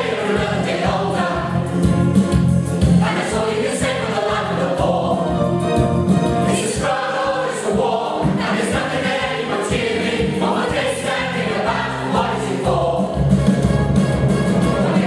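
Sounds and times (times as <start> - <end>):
chorus singing with accompaniment: 0.0 - 15.0.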